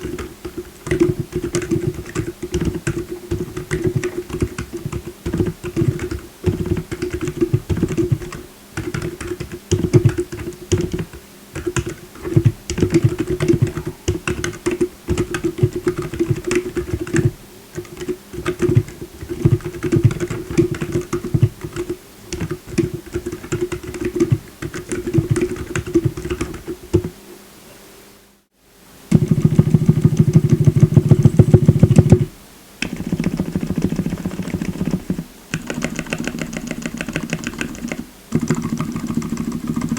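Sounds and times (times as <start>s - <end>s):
muted keyboard typing: 0.0s - 27.1s, 29.1s - 39.9s.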